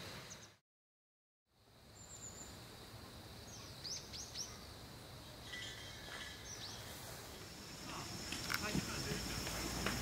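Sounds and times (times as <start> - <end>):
outdoor hush: 1.5 - 10.0
birds chirping: 1.9 - 10.0.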